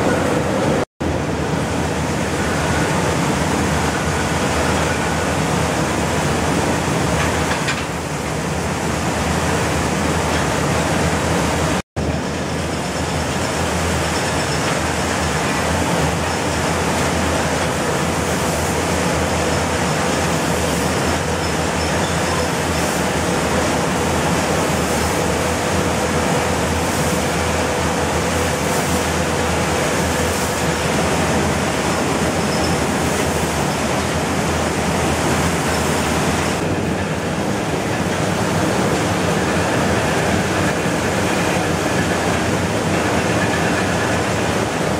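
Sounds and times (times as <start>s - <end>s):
mill machinery din: 0.0s - 44.9s.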